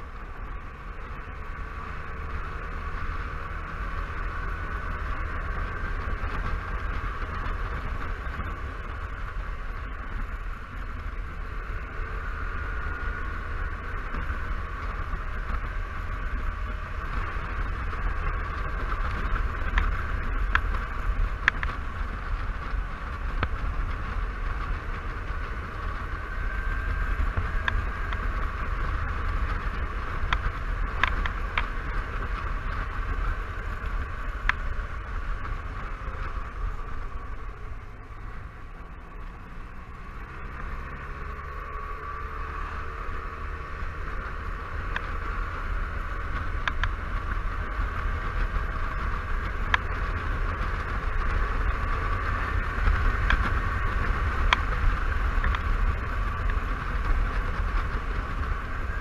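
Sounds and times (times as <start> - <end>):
scooter engine running: 0.0 - 59.0
wind rumbling on microphone: 0.0 - 59.0.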